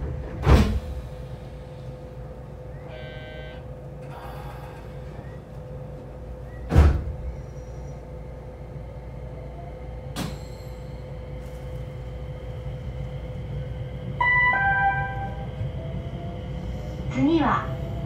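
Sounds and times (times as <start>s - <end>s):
train hum and low rumble: 0.0s - 18.0s.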